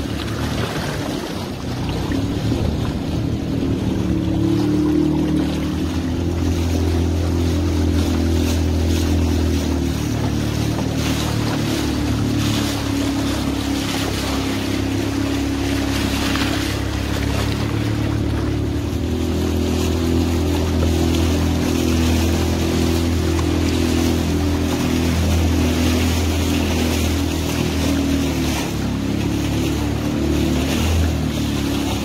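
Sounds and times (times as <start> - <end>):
outboard motor running: 0.0 - 32.0
river water rushing along hull: 0.0 - 32.0.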